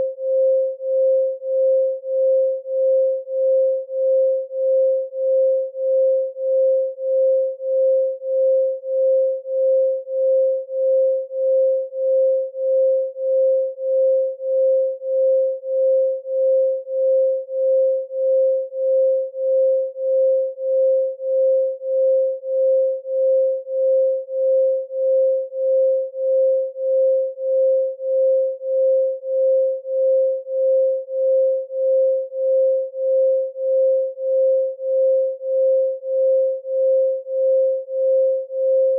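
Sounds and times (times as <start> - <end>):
pulsing sine tone: 0.0 - 38.9.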